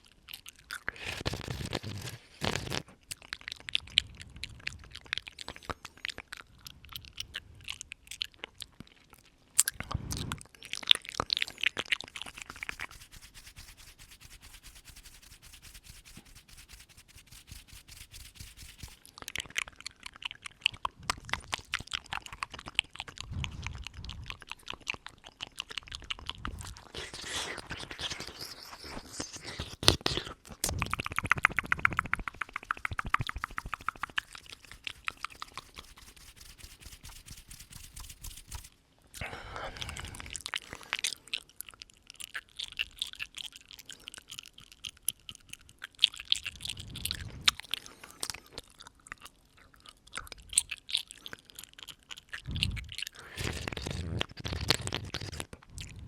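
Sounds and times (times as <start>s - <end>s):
wet mouth clicks and smacks: 0.0s - 56.0s.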